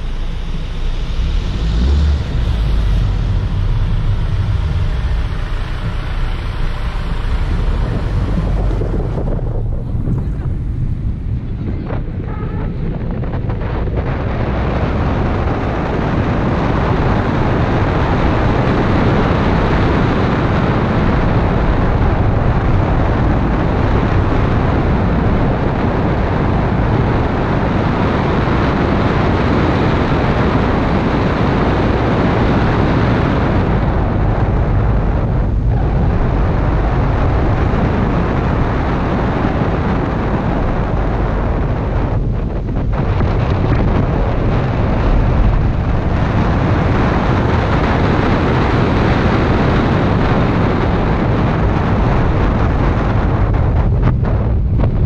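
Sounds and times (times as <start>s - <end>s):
tyre and road noise: 0.0s - 55.0s
wind rushing on microphone: 0.0s - 55.0s.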